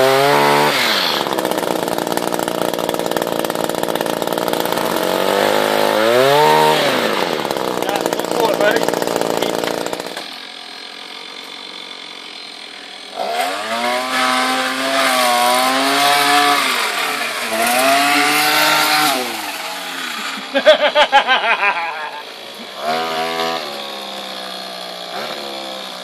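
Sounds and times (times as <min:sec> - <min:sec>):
chainsaw engine idling and revving: 0:00.0 - 0:26.0.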